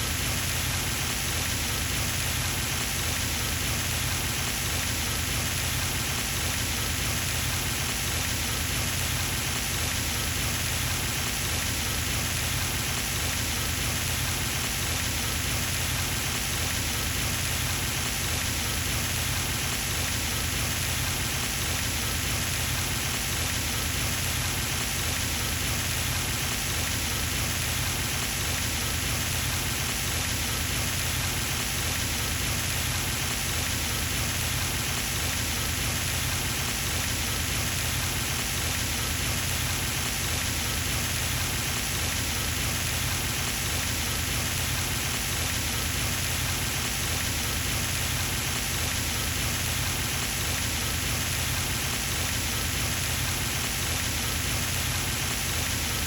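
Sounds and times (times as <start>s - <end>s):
fountain water splashing on pond: 0.0s - 56.0s.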